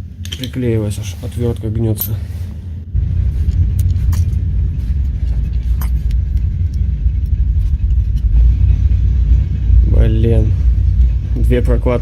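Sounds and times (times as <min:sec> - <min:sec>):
loud low rumble: 0:02.3 - 0:12.0.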